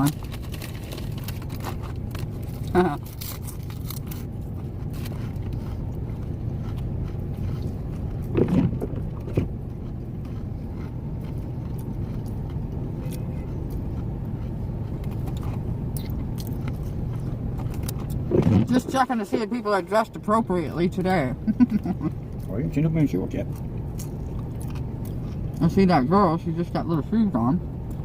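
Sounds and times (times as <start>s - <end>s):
vehicle idling rumble: 0.0s - 28.0s.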